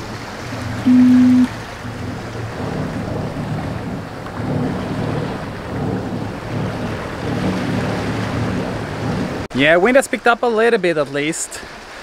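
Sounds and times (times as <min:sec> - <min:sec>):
water rushing along a hull: 0:00.0 - 0:12.0.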